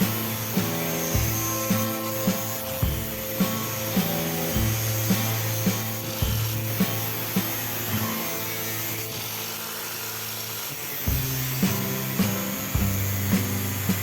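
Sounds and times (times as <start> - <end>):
held bass line: 0.0 - 9.1, 11.1 - 14.0
background music with steady beat: 0.0 - 14.0
steady hiss: 0.0 - 14.0.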